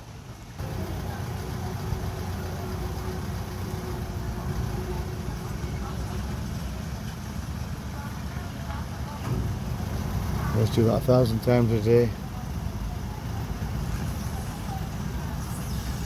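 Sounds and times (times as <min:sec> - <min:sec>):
engine running with low rumble: 0:00.0 - 0:16.0.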